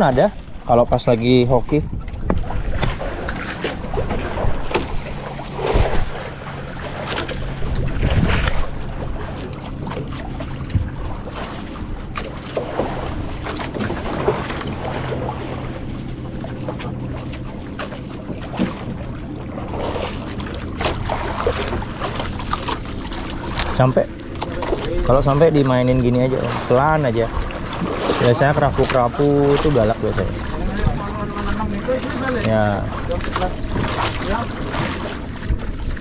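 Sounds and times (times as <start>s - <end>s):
boat engine humming: 0.0s - 36.0s
wind buffeting microphone: 0.4s - 16.8s, 18.2s - 36.0s.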